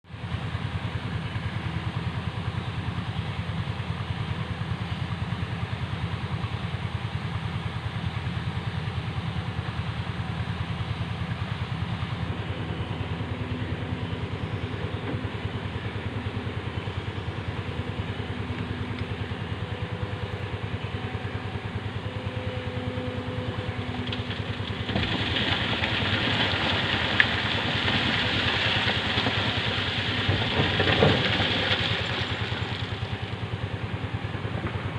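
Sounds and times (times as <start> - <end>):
excavator diesel engine idling: 0.2 - 34.9.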